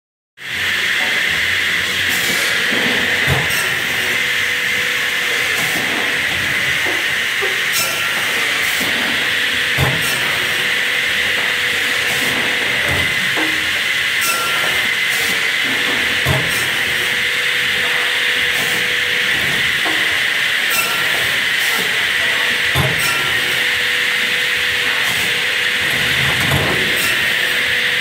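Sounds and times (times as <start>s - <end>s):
band saw hissing: 0.5s - 28.0s.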